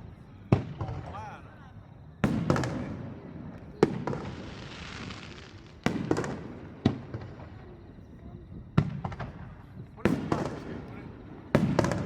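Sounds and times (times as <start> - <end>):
firework shells booming: 0.0 - 1.4, 2.2 - 7.6, 8.6 - 12.0.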